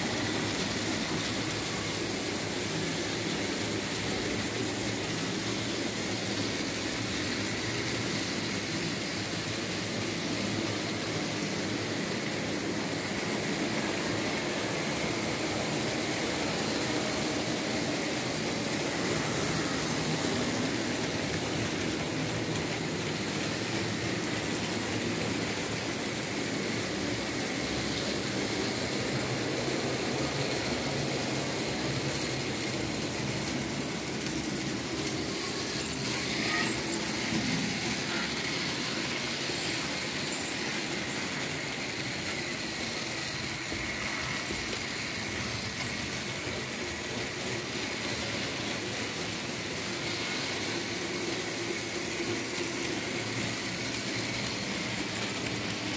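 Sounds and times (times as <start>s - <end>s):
model train wheels rolling on track: 0.0s - 55.9s
small electric motors whirring: 0.0s - 55.9s.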